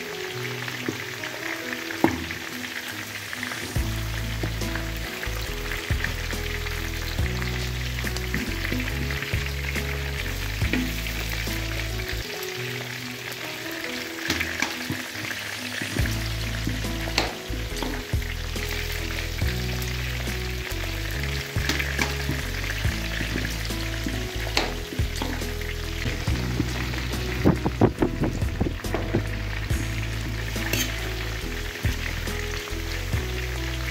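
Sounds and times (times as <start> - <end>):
background music: 0.0 - 33.9
fat sizzling in a wok: 0.0 - 33.9.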